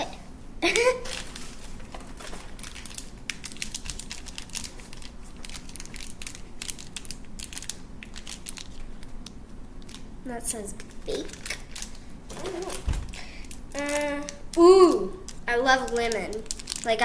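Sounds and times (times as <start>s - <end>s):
candy wrapper crinkling: 0.6s - 10.1s, 10.7s - 17.0s.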